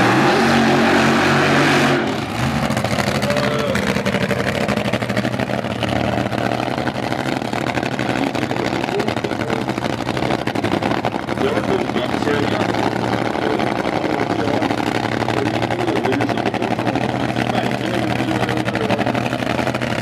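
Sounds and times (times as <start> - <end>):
dragster engine crackling: 0.0 - 20.0.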